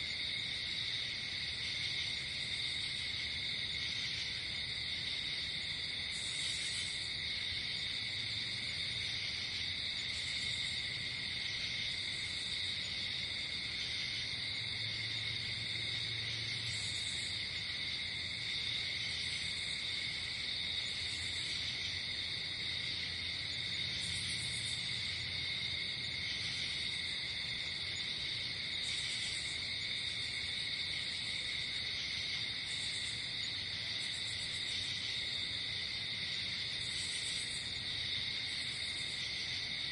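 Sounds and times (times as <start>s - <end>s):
crickets and insects trilling: 0.0s - 39.9s.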